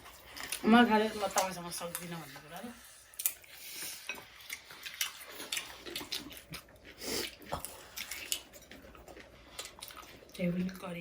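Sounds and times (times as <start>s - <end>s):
soft hissing eating noise: 0.0s - 10.4s.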